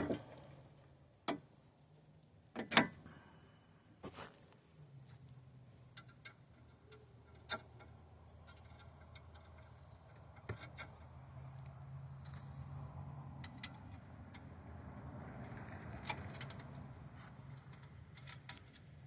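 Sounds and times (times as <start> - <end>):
metallic clicks of car parts: 0.0 - 1.6, 2.5 - 3.3, 5.2 - 14.7, 15.4 - 19.0.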